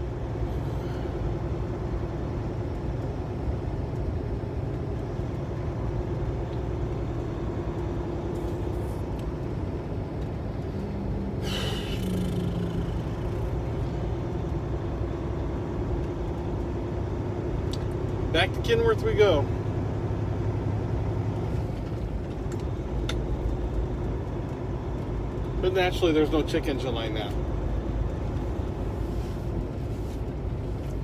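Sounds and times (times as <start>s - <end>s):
truck engine and road rumble: 0.0s - 31.0s.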